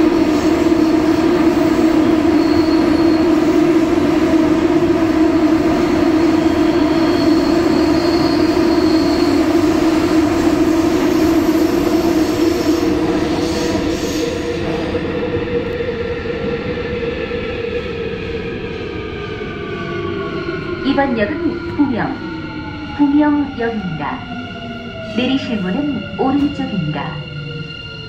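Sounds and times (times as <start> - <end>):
train rumbling in tunnel: 0.0 - 28.0.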